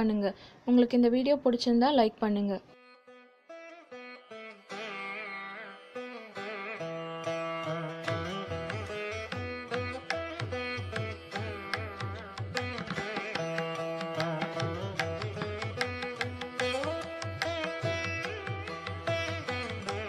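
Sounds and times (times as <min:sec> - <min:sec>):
plucked string melody: 0:03.6 - 0:20.0.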